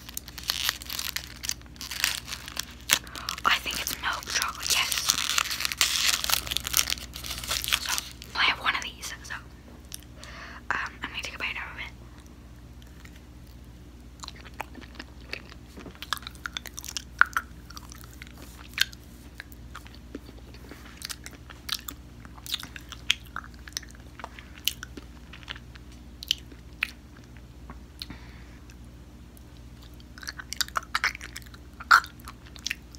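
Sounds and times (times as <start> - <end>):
candy crunching: 0.0 - 10.1, 12.8 - 27.4, 29.4 - 32.9.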